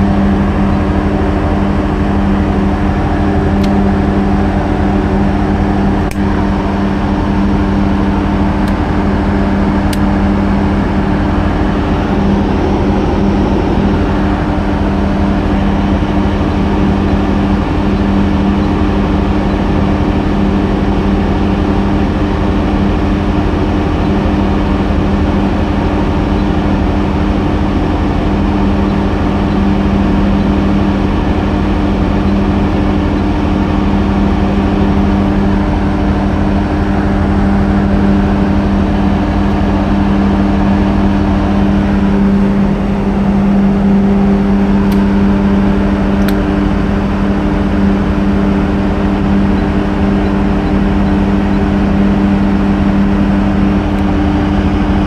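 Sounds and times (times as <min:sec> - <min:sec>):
diesel generator engine drone: 0:00.0 - 0:55.0.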